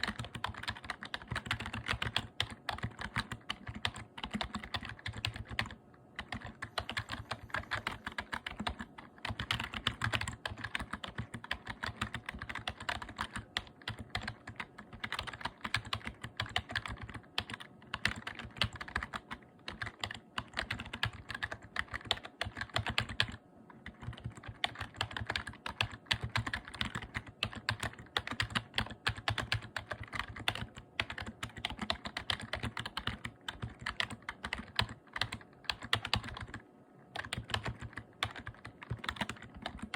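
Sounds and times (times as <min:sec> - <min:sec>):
typing on keyboard: 0:00.0 - 0:39.9.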